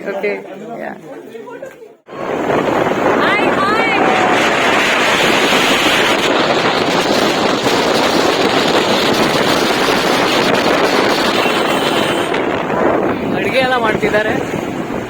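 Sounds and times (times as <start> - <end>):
vehicle engine and road noise: 2.1 - 15.0
wind buffeting microphone: 2.1 - 15.0.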